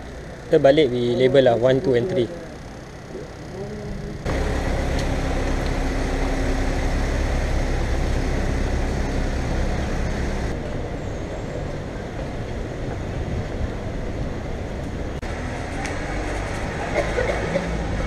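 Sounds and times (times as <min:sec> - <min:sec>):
faint engine hum: 0:00.0 - 0:18.0
vehicles passing: 0:00.0 - 0:18.0.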